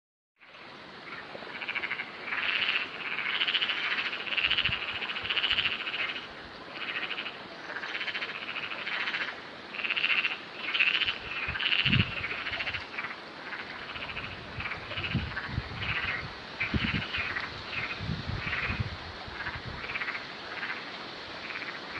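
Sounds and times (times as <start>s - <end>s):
frogs calling: 0.4s - 21.9s.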